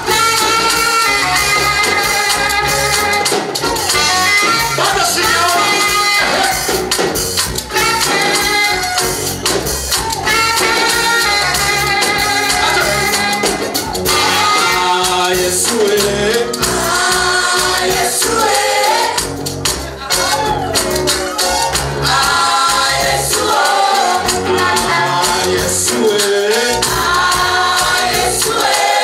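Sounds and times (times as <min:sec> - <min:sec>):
choir singing gospel song: 0:00.0 - 0:29.0
steady beat: 0:00.0 - 0:29.0.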